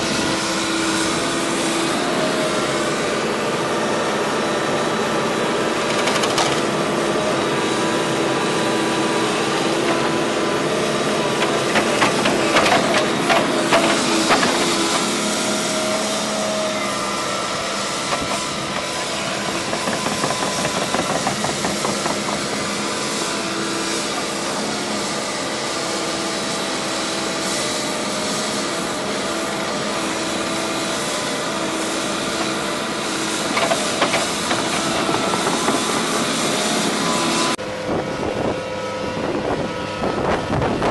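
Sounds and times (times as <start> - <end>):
excavator engine and hydraulics: 0.0 - 40.9.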